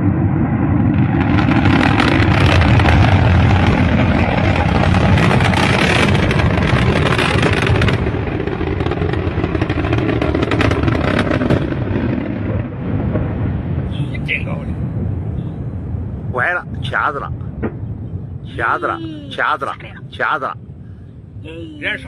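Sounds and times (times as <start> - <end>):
distant rocket engines rumbling: 0.0 - 22.0.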